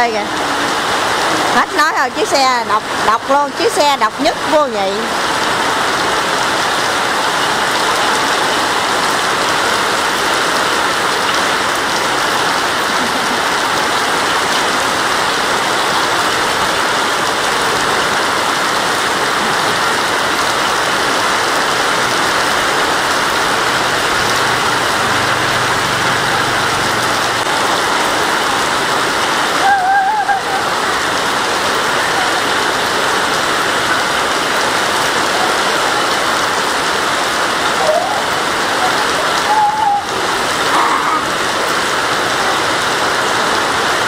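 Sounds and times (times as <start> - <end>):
heavy rain on a paved road: 0.0 - 44.0.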